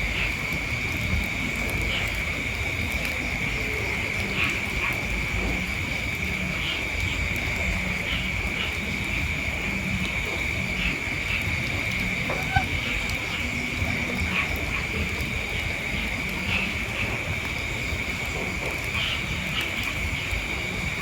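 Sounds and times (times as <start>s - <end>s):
high-pitched insect drone: 2.0s - 21.0s.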